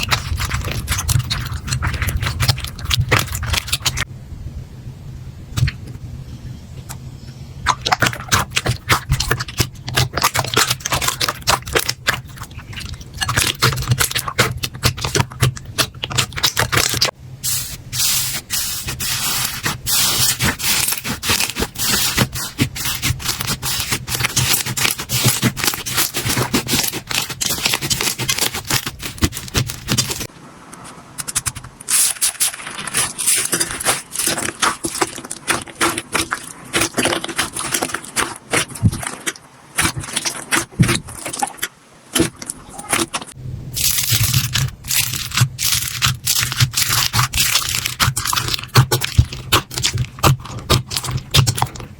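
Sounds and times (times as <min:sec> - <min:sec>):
slime crackling and popping: 0:00.0 - 0:04.1, 0:07.6 - 0:30.3, 0:31.2 - 0:51.9.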